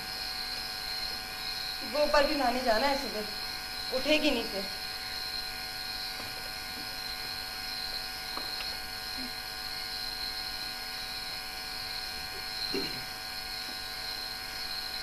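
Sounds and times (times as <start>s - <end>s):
crickets chirring: 0.0s - 15.0s
low electrical hum: 0.0s - 15.0s.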